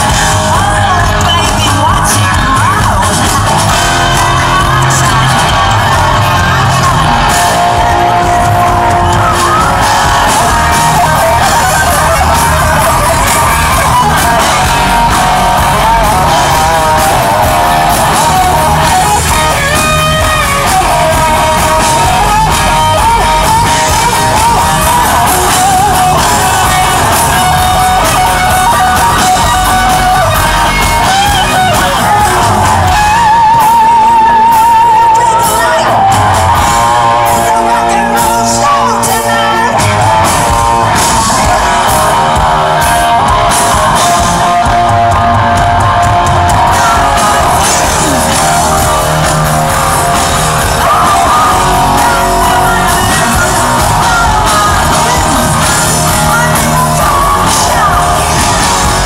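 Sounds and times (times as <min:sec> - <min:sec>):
bass guitar: 0:00.0 - 0:59.0
distorted electric guitars: 0:00.0 - 0:59.0
drums: 0:00.0 - 0:59.0
man singing and shouting: 0:00.0 - 0:59.0.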